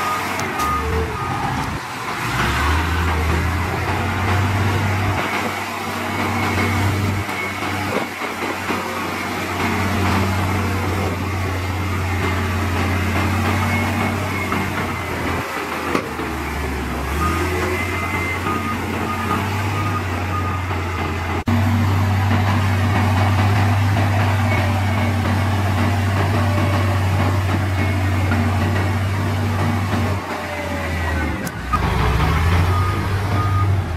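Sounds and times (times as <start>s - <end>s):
heavy diesel engines droning: 0.0s - 33.9s.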